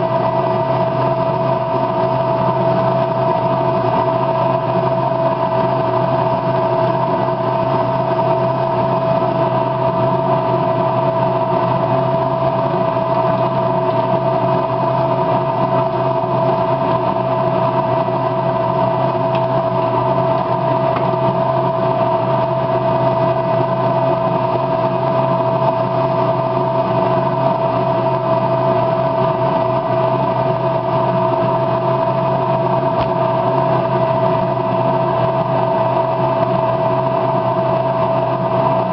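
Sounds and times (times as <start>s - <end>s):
steady machine hum: 0.0s - 38.9s.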